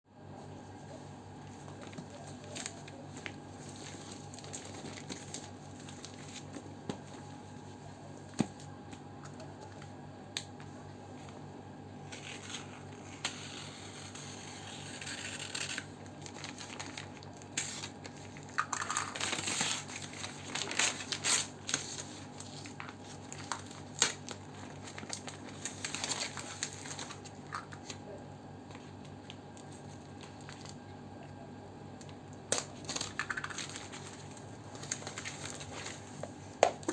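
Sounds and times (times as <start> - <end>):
steady background hum: 0.1 - 36.9
wrapping crinkling and tearing: 1.4 - 7.3, 12.0 - 30.9, 32.0 - 36.9.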